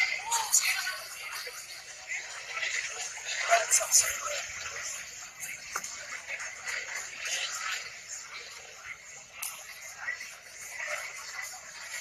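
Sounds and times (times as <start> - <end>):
crowd hubbub: 0.0 - 12.0.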